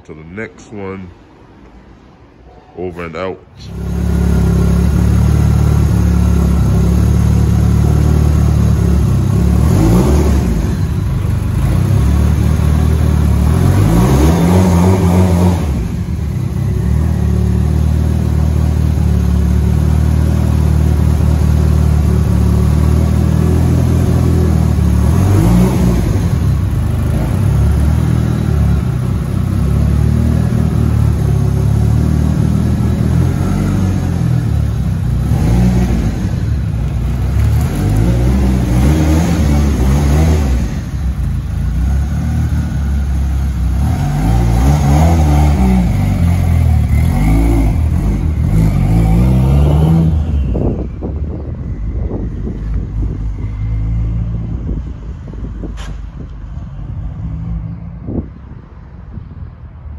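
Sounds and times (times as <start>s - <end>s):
car engine idling and revving: 3.6s - 59.9s.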